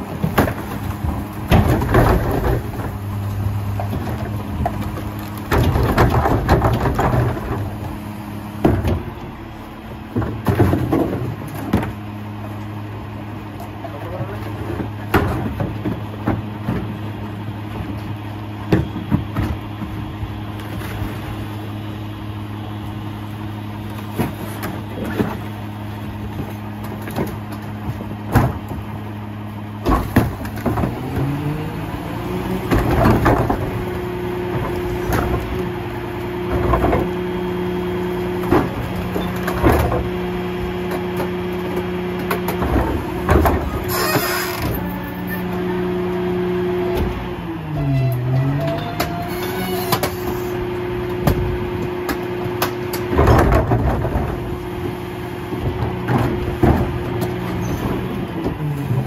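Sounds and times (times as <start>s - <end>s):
garbage carts knocking and banging: 0.0s - 9.4s, 10.1s - 12.1s, 13.8s - 21.5s, 23.8s - 29.2s, 29.8s - 45.9s, 46.8s - 59.0s.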